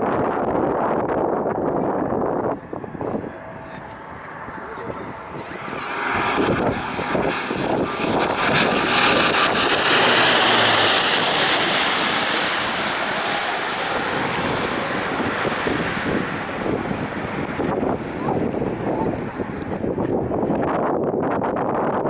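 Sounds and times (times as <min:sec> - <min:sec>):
airliner passing overhead: 0:00.0 - 0:20.4.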